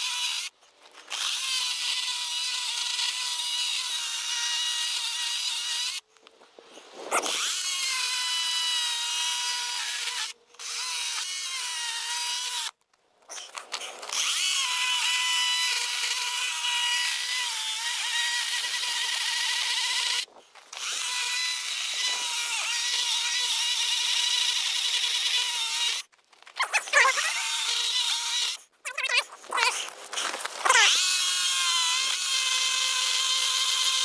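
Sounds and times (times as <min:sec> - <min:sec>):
electric chainsaw cutting log: 0:00.0 - 0:06.0, 0:07.1 - 0:34.0.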